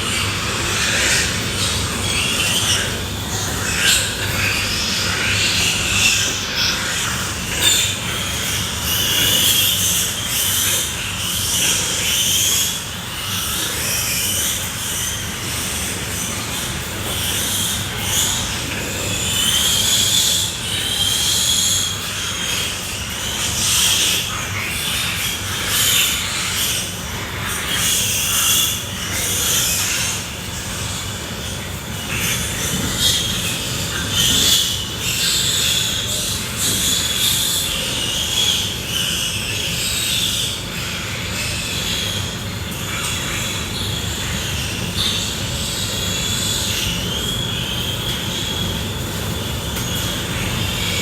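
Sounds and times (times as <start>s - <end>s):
pigs squealing: 0.0s - 51.0s.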